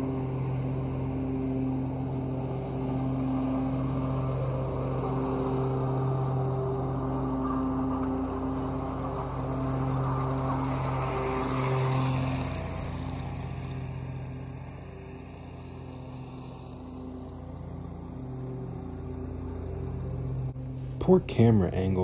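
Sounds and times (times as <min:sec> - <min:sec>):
rush of blown leaves: 0:00.0 - 0:21.6
mower blades mulching leaves: 0:00.0 - 0:22.0
riding mower engine full throttle: 0:00.0 - 0:22.0.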